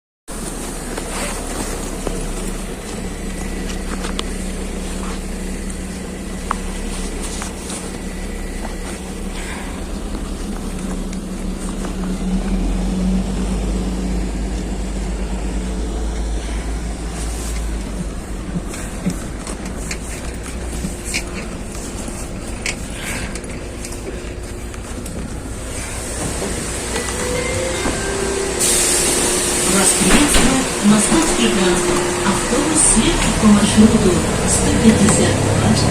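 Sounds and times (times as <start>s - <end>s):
bus engine hum: 0.3s - 35.9s.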